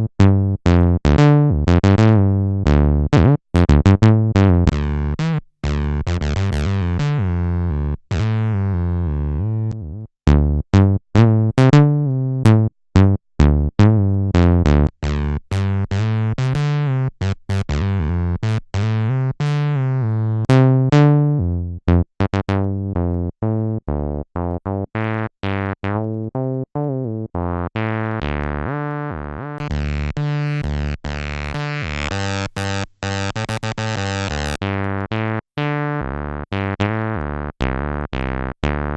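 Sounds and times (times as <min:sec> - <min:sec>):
buzzy synth bassline: 0:00.0 - 0:38.9.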